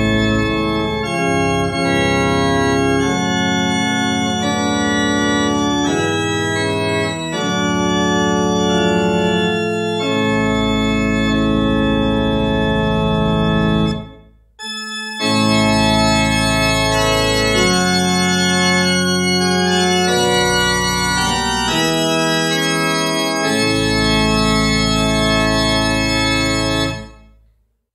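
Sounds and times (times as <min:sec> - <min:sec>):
church organ playing hymn chords: 0:00.0 - 0:27.4.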